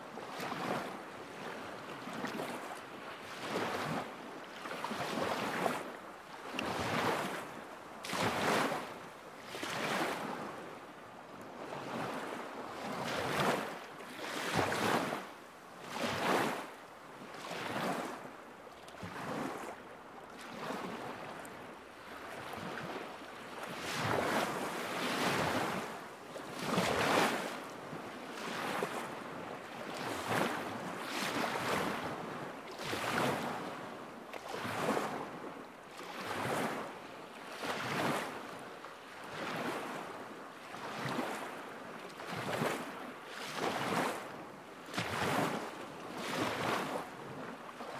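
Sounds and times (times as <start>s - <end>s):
small waves lapping shore: 0.0s - 47.9s.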